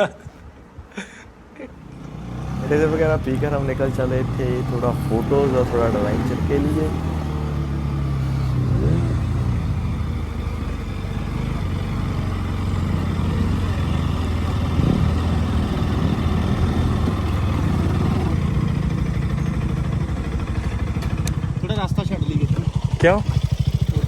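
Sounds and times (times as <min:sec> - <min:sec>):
motorcycle engine running: 0:01.8 - 0:24.0.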